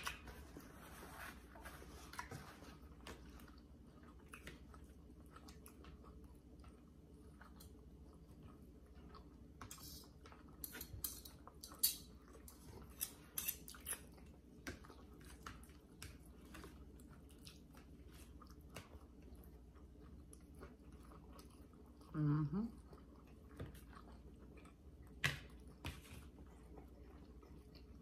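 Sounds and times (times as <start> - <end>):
faint chewing: 0.0 - 28.0.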